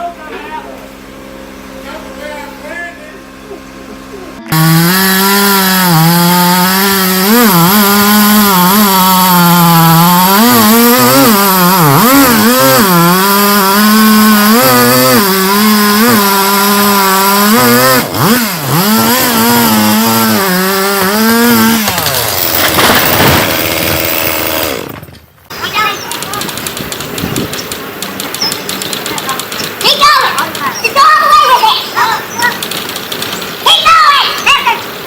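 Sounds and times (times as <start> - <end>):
chainsaw cutting wood: 4.4 - 35.0.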